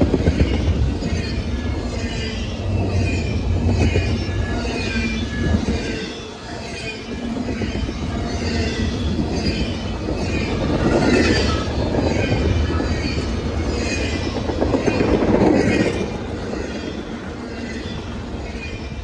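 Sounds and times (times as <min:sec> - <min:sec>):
train wheels rumbling on rails: 0:00.0 - 0:19.0
high wheel squeal: 0:00.3 - 0:19.0.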